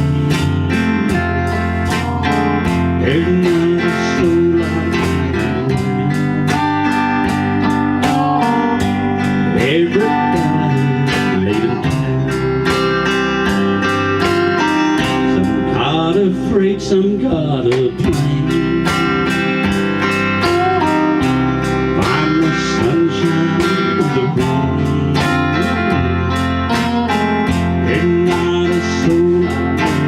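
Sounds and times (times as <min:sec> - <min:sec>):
bass line: 0:00.0 - 0:30.0
lead guitar bending notes: 0:00.0 - 0:30.0
steady drum beat: 0:00.0 - 0:30.0.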